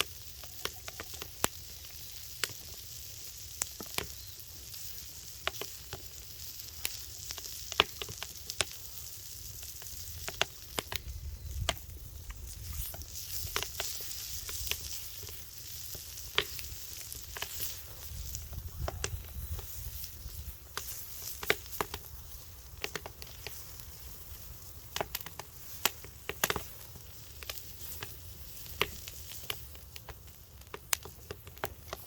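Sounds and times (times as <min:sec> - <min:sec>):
fire crackling and popping: 0:00.0 - 0:32.0
steady sizzling hiss: 0:00.0 - 0:32.0.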